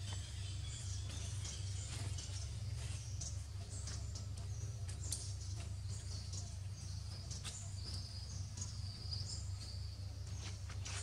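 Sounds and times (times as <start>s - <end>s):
insect calls: 0.0s - 11.0s
steady low rumble: 0.0s - 11.0s.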